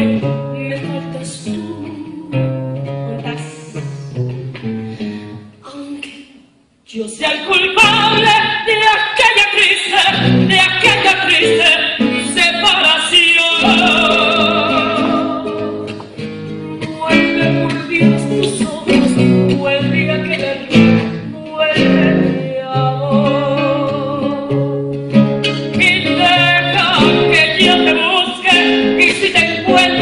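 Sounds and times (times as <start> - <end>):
woman singing with vibrato: 0.0 - 4.4, 5.0 - 16.0, 16.8 - 24.8, 25.6 - 30.0
acoustic guitar: 0.0 - 30.0.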